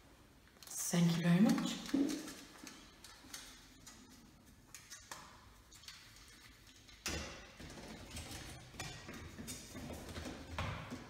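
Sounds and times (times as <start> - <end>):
hands and tools clicking and tapping: 1.5 - 11.0.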